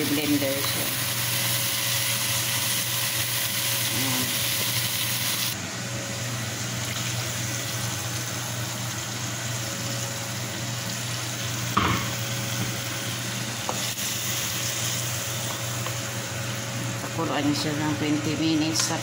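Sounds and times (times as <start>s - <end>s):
sauce sizzling in a pot: 0.0s - 5.6s, 6.7s - 17.0s.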